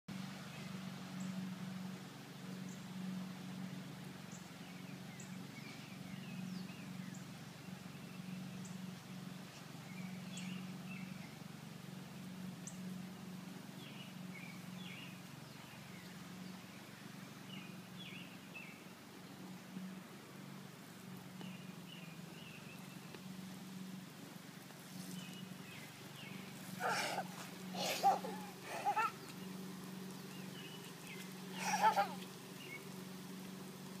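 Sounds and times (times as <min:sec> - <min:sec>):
steady low hum: 0:00.1 - 0:34.0.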